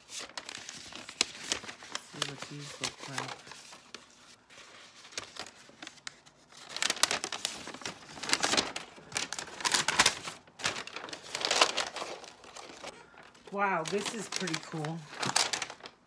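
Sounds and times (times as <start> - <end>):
paper crinkling and rustling: 0.0 - 16.0.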